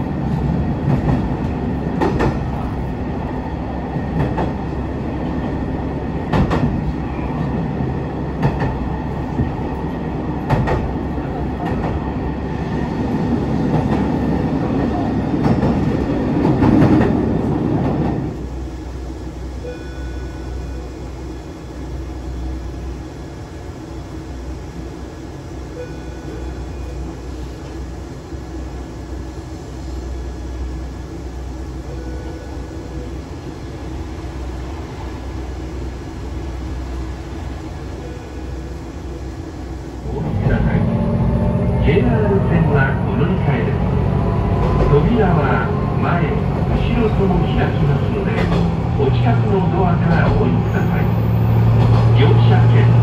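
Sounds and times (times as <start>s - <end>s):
railcar running noise inside: 0.0s - 53.0s.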